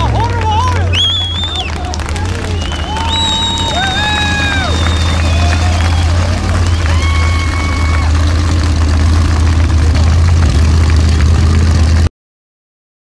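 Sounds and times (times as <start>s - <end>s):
buggy engine droning: 0.0s - 12.1s.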